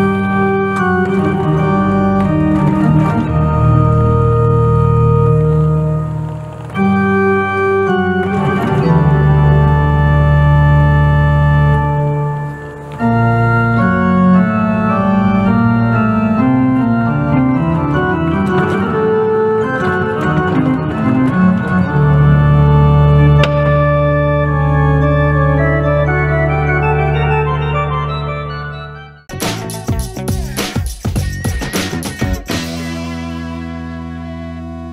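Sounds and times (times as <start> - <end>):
organ playing chords: 0.0 - 34.9.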